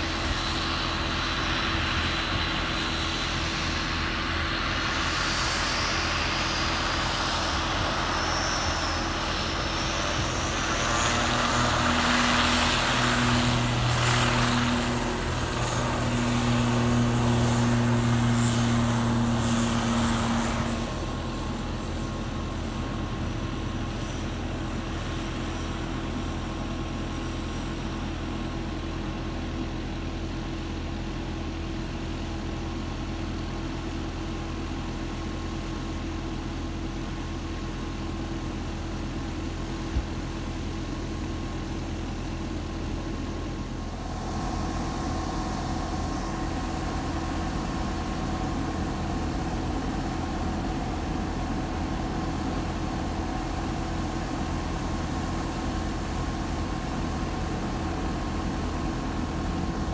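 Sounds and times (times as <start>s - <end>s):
turboprop engines at high power: 0.0s - 59.9s.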